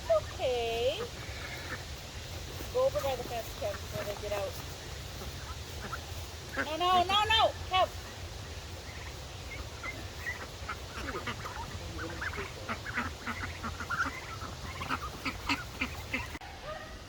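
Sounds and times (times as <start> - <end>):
ducks quacking: 0.0 - 17.0
turkeys calling: 0.0 - 17.0.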